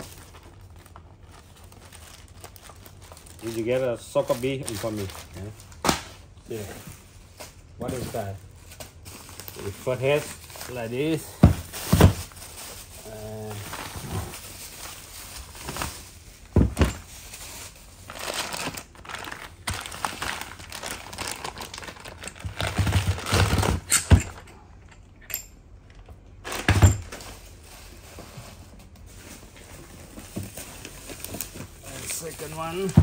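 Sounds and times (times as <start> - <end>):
bubble wrap and plastic crinkling: 0.0 - 24.4, 26.0 - 33.0.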